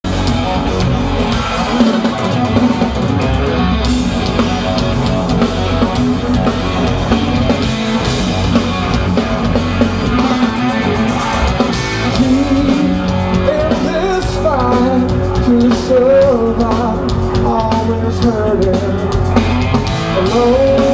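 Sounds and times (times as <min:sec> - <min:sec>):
bass guitar: 0:00.0 - 0:20.9
distorted electric guitar: 0:00.0 - 0:20.9
drums: 0:00.0 - 0:20.9.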